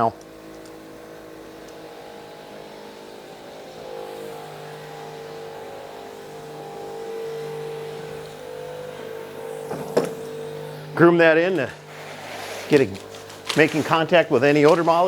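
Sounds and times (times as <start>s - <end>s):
engine humming: 0.0s - 15.0s
pump sprayer motor drone: 0.0s - 15.0s.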